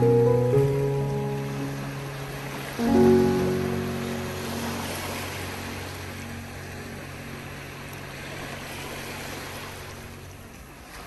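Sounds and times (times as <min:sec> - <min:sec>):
surf washing on shore: 0:00.0 - 0:11.0.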